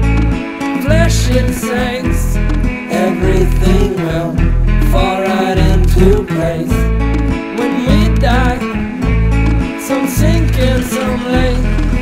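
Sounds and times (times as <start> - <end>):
song with guitar and bass: 0.0 - 12.0.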